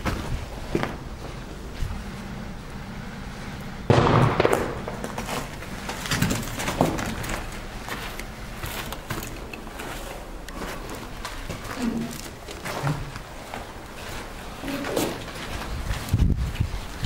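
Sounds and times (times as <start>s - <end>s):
footsteps on gritty concrete: 0.0s - 2.0s, 4.4s - 17.0s.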